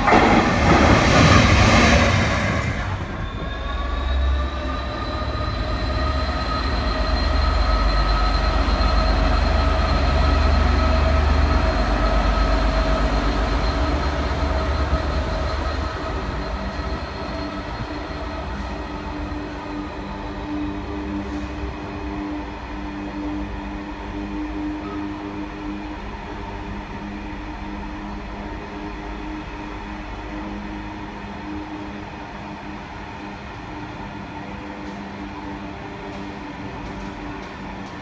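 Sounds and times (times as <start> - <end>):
locomotive rushing past: 0.0 - 38.0
locomotive whine: 0.0 - 38.0.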